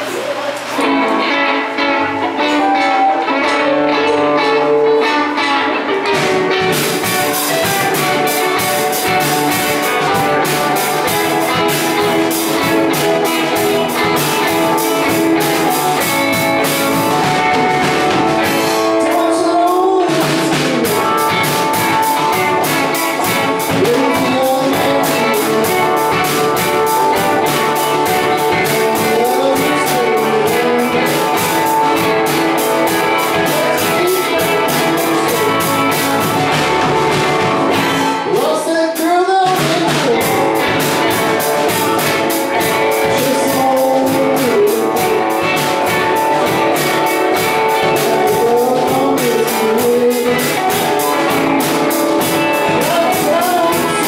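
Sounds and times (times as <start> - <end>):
electric guitars: 0.0 - 54.0
drums and cymbals: 5.9 - 54.0.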